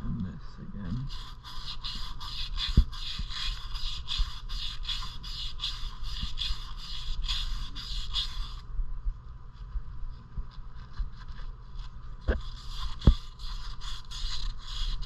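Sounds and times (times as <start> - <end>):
emery cloth rasping in cylinder: 0.9 - 8.6, 10.6 - 15.0.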